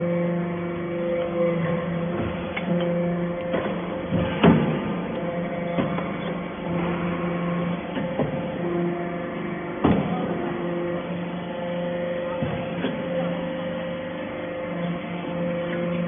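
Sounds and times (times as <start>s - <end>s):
baling press humming: 0.0s - 16.0s.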